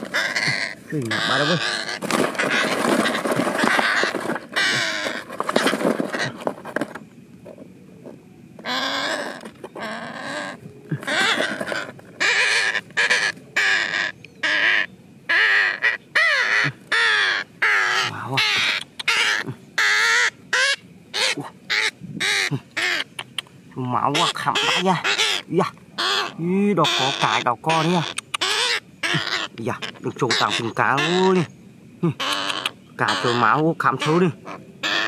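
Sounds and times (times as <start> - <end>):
parakeet screeching: 0.0 - 6.4, 8.6 - 23.1, 24.1 - 31.5, 32.2 - 35.0.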